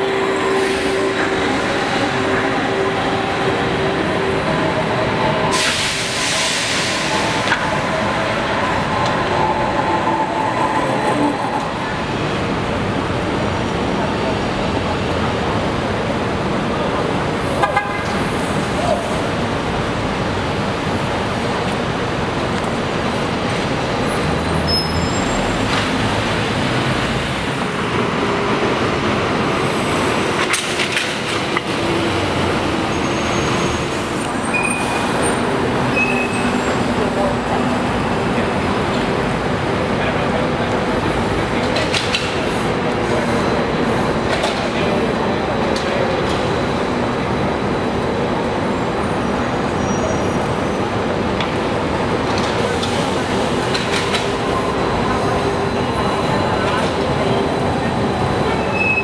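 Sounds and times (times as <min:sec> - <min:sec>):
street traffic: 0:00.0 - 0:59.0
trolleybus passing: 0:00.0 - 0:59.0.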